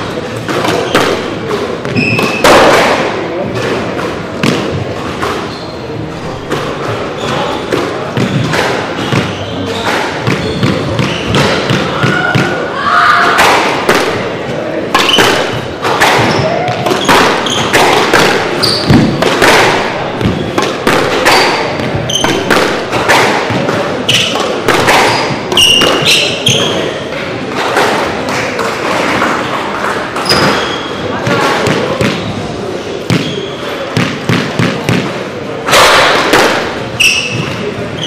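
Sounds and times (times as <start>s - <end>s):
squash ball knocks and thuds: 0.0s - 5.5s, 6.2s - 29.4s, 30.1s - 37.9s.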